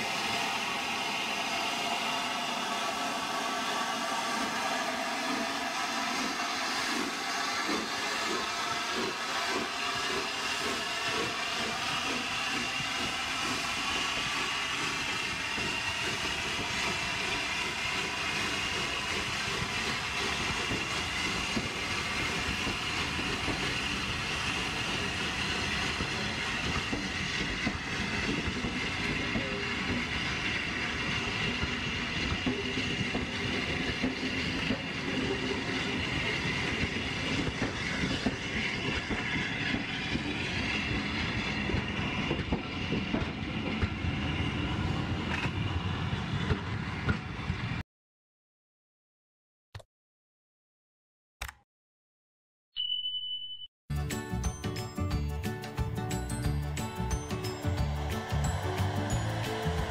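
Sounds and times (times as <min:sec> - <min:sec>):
high whine rising in pitch: 0:00.0 - 0:46.3, 0:56.7 - 0:59.9
train rail noise: 0:00.0 - 0:47.8, 0:54.0 - 0:59.9.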